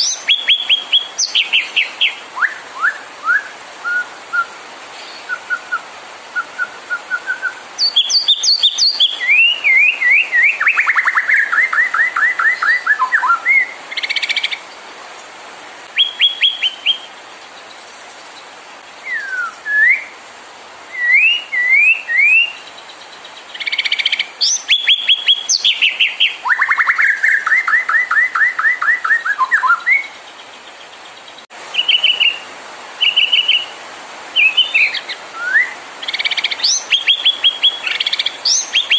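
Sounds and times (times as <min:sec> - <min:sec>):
bird singing whistles and trills: 0:00.0 - 0:14.6, 0:16.0 - 0:17.1, 0:19.0 - 0:20.2, 0:20.9 - 0:22.7, 0:23.6 - 0:30.2, 0:31.8 - 0:32.4, 0:33.0 - 0:33.7, 0:34.4 - 0:38.9.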